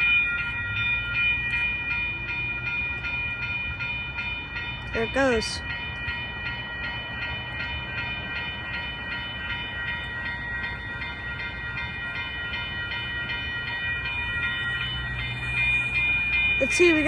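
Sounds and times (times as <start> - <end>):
railroad crossing bell ringing: 0.0 - 17.0
train rumbling: 0.0 - 17.0.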